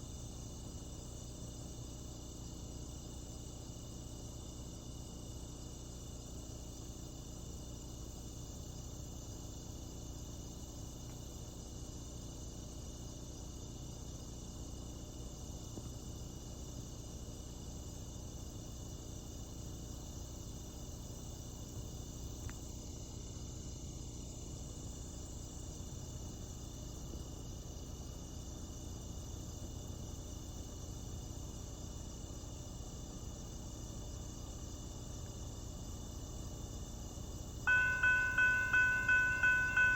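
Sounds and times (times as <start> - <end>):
insects chirring: 0.2 - 39.9.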